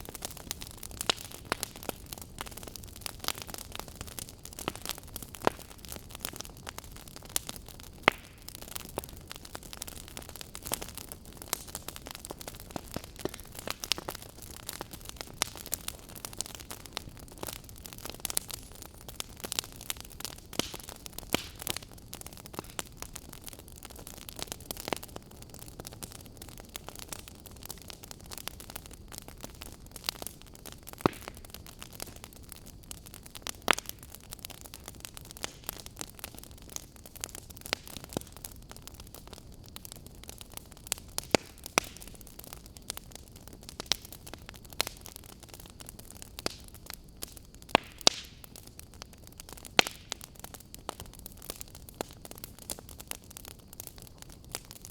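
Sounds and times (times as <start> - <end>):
fireplace crackling and popping: 0.0 - 54.9.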